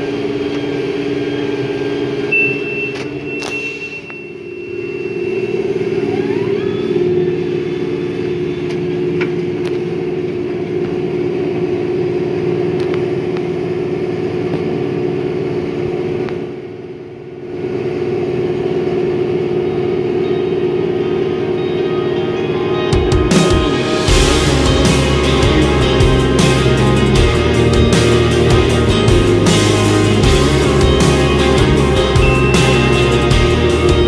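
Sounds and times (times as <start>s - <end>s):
tractor diesel engine droning: 0.0s - 34.0s.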